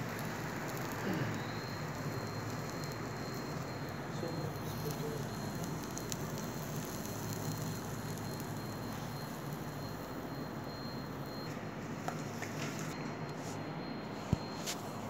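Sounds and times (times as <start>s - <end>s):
patty sizzling in frying pan: 0.0s - 12.9s.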